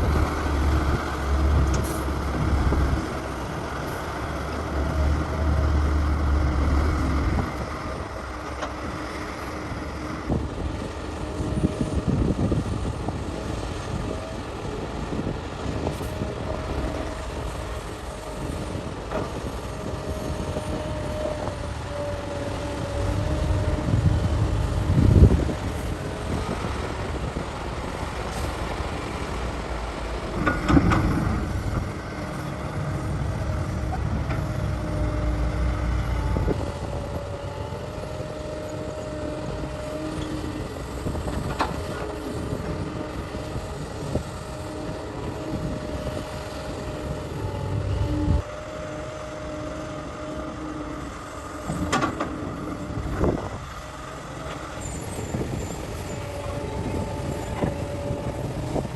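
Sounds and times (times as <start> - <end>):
excavator diesel drone: 0.0 - 58.9
hydraulic whine: 9.7 - 58.9.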